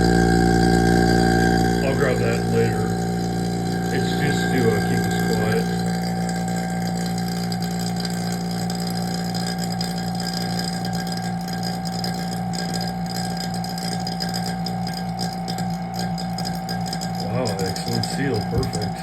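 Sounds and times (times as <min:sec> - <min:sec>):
vacuum pump humming and throbbing: 0:00.0 - 0:19.0.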